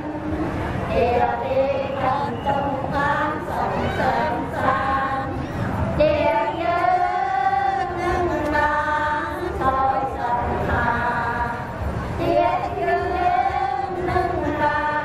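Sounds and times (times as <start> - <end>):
group chanting in unison: 0.0 - 15.0.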